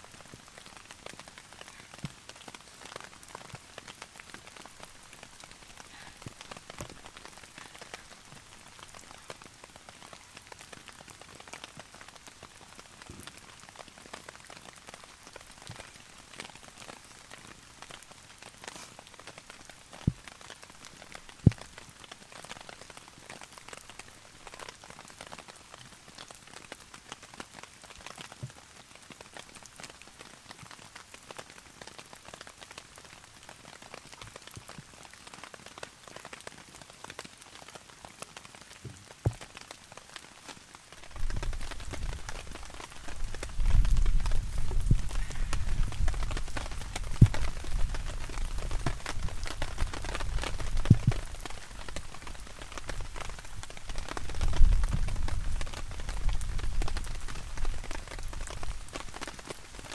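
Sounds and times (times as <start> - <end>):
heavy rain on a tarp: 0.0 - 59.9.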